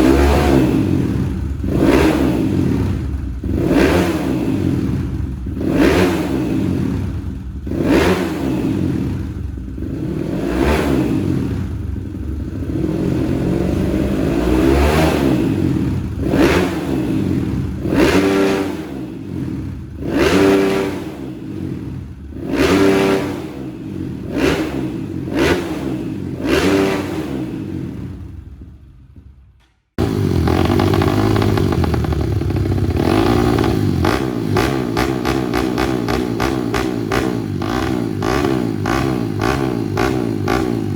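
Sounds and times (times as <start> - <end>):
engine running at steady revs: 0.0 - 40.9
motorcycle engine throttle blips: 0.0 - 40.9.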